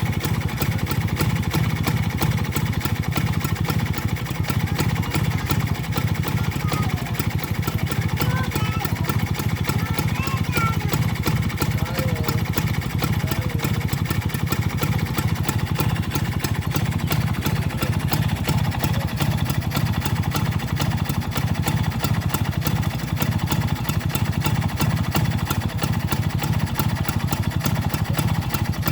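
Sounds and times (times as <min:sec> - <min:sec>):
scooter engine idling: 0:00.0 - 0:28.9.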